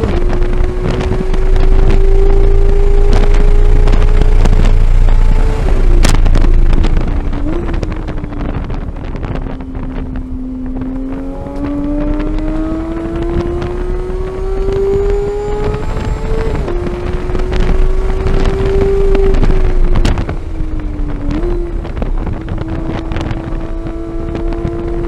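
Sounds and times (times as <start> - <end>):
car engine revving: 0.0 - 25.0
wind and road noise: 0.0 - 25.0.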